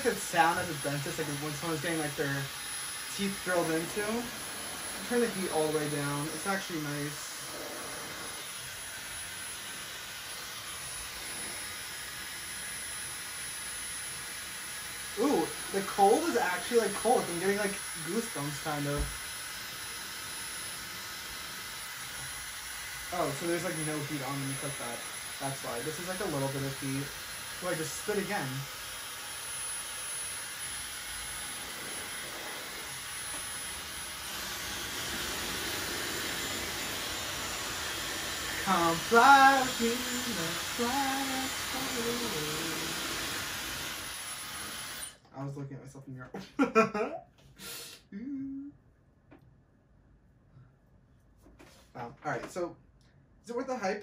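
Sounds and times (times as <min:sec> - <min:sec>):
hair dryer with high whine: 0:00.0 - 0:45.2.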